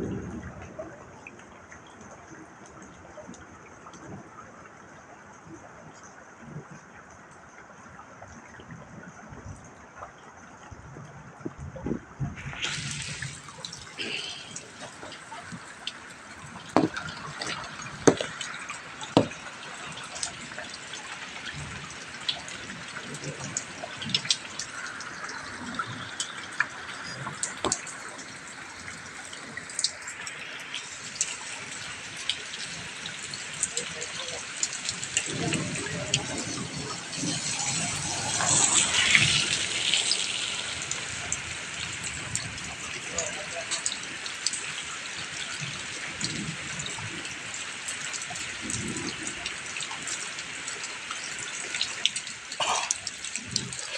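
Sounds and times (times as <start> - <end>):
large raindrops plopping: 0.0 - 53.9
steady rain falling: 0.0 - 53.9.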